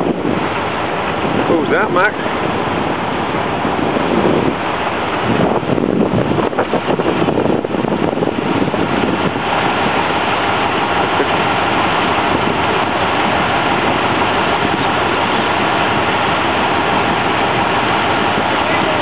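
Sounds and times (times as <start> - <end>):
boat engine: 0.0 - 19.0
water rushing: 0.0 - 19.0
wind buffeting microphone: 0.0 - 19.0.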